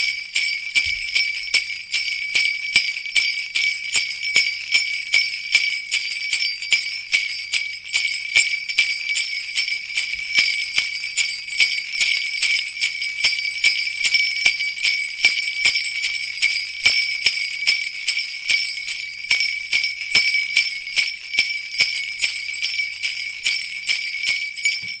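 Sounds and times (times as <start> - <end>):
sleigh bells jingling: 0.0 - 25.0.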